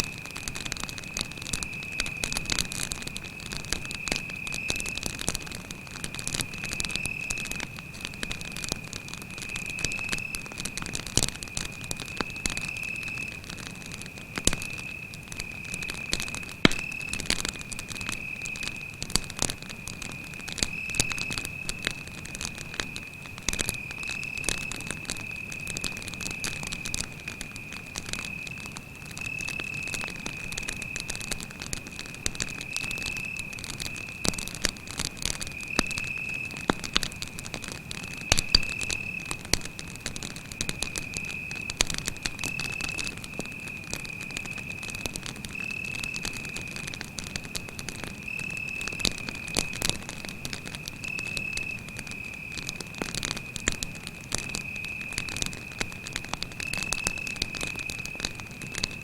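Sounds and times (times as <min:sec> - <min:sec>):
campfire crackling and popping: 0:00.0 - 0:59.0
crickets trilling: 0:00.0 - 0:59.0.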